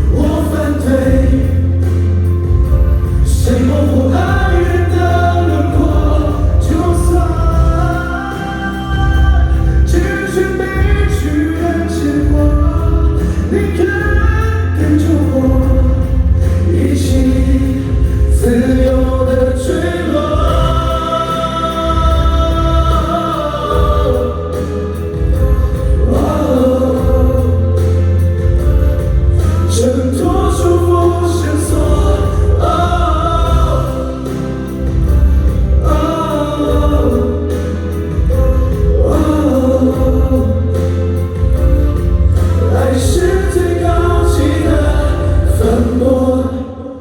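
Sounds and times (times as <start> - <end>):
heavy bass line: 0.0 - 47.0
pop song with voices singing: 0.0 - 47.0.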